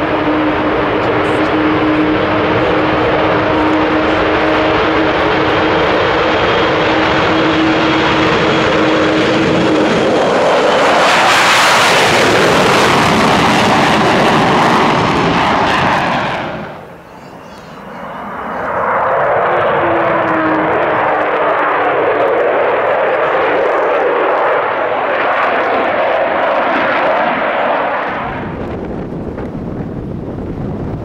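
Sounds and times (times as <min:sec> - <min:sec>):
jet aircraft taking off with howl: 0:00.0 - 0:31.0.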